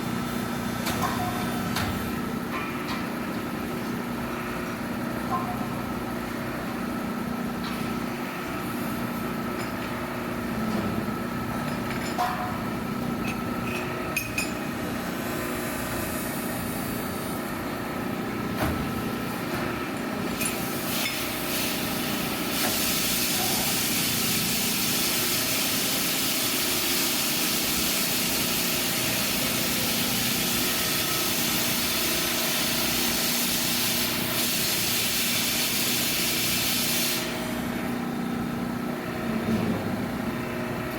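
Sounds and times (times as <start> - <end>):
shop machinery humming: 0.0 - 40.9.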